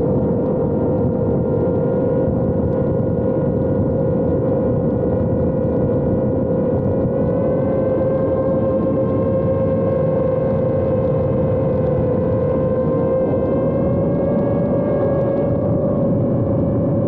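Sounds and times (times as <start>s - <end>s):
drone motors high whine: 0.0s - 17.0s.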